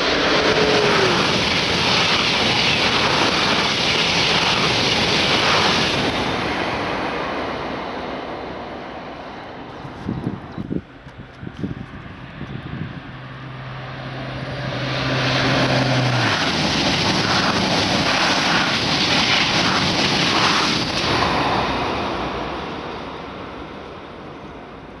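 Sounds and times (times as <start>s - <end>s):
high-speed train passing: 0.0s - 25.0s.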